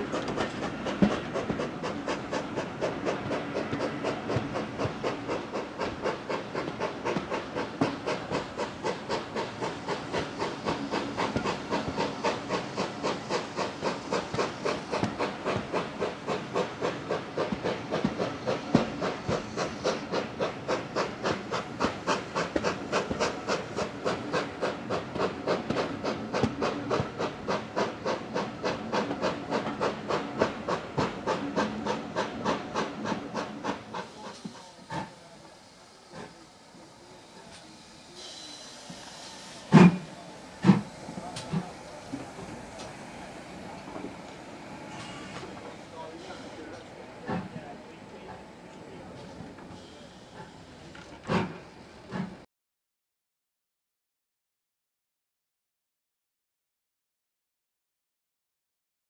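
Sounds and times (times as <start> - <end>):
steam locomotive exhaust chuffing: 0.0 - 52.4.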